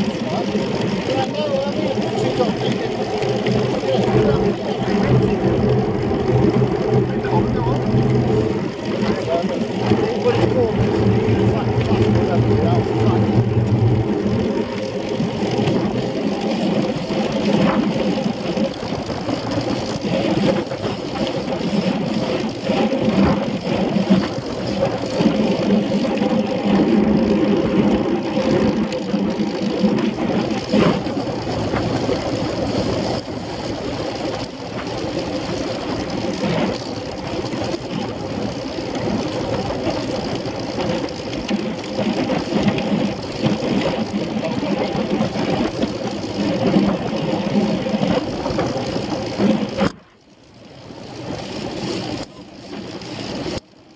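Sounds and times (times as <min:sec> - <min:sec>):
bicycle rumbling and rattling: 0:00.0 - 0:53.9.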